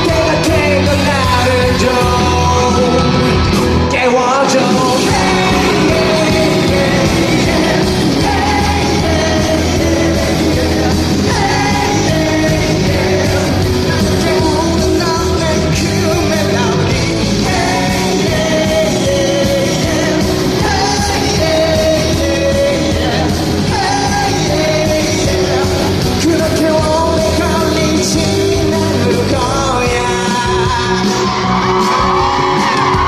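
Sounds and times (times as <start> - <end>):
person singing: 0.0 - 33.0
rock-pop band playing: 0.0 - 33.0.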